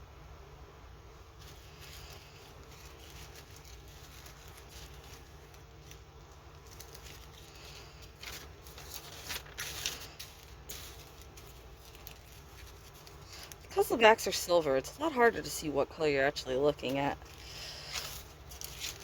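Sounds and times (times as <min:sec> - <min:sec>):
steady low hum: 0:00.0 - 0:19.0
plastic bags rustling: 0:01.3 - 0:19.0.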